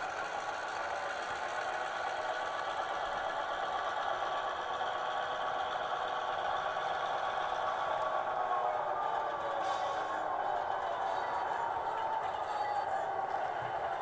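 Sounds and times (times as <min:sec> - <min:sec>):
model locomotive mechanical drone: 0:00.0 - 0:14.0.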